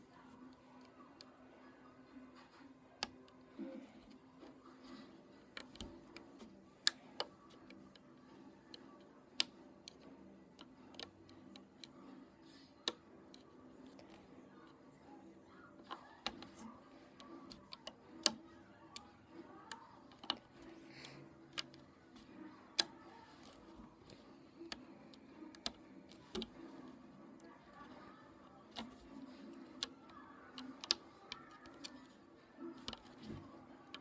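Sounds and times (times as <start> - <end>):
faint low hum: 0.0 - 34.0
rubber bands clicking on loom pegs: 2.4 - 34.0.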